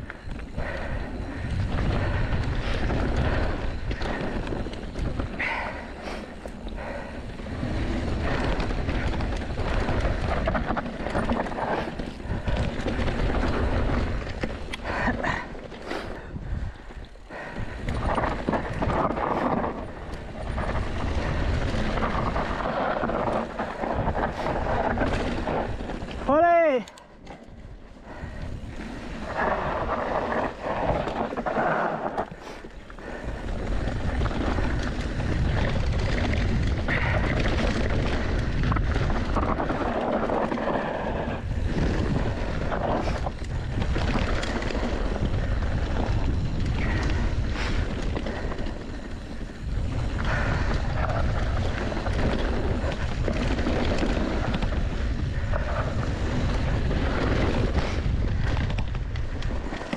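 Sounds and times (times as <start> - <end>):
tyres rolling over dirt and rock: 0.0 - 26.8, 28.0 - 59.9
wind buffeting microphone: 0.0 - 59.9.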